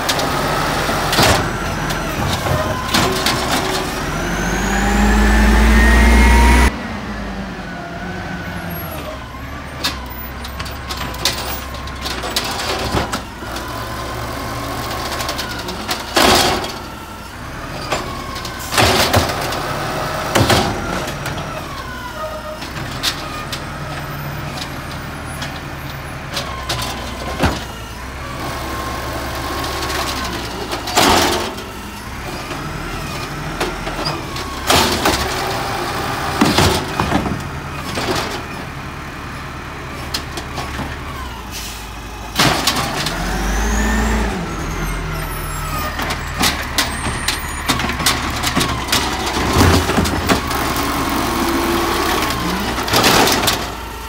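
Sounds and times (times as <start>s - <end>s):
trash bins banging on truck: 0.0s - 5.2s, 9.9s - 38.8s, 40.0s - 54.0s
garbage truck engine whining: 0.0s - 54.0s.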